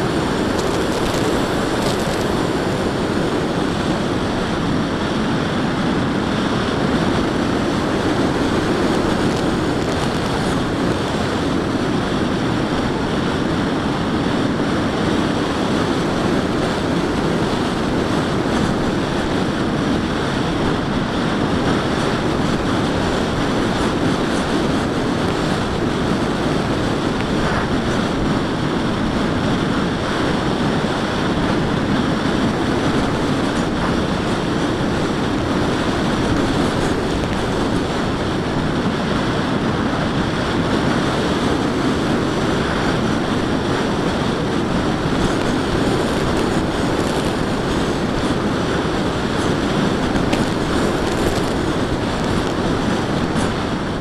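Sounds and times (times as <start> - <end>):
air rushing over microphone: 0.0 - 54.0
electric motor and propeller: 0.0 - 54.0.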